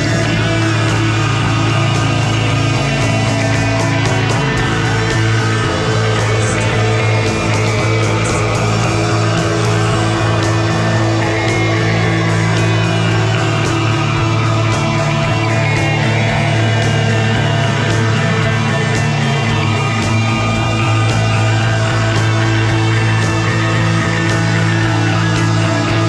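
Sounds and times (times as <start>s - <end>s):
drums and cymbals: 0.0s - 26.0s
guitars over low drone: 0.0s - 26.0s
psychedelic rock band playing: 0.0s - 26.0s.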